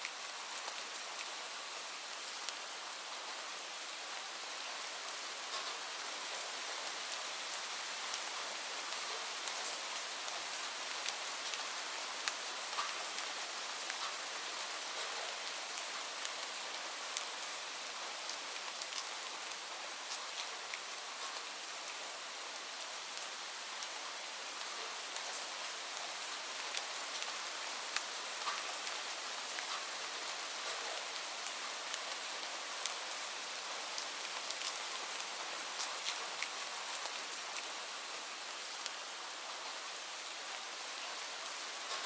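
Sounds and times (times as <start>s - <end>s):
rain falling on leaves: 0.0s - 42.0s.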